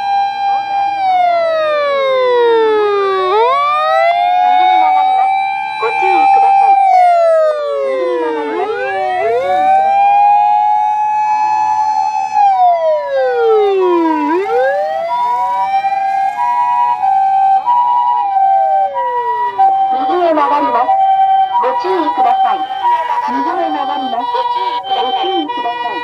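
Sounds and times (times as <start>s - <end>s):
hi-lo ambulance siren: 0.0s - 26.0s
wailing siren: 0.0s - 26.0s.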